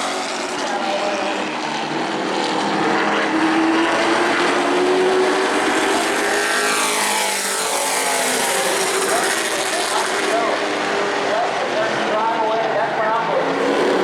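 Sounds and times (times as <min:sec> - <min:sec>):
racing truck engines: 0:00.0 - 0:14.0.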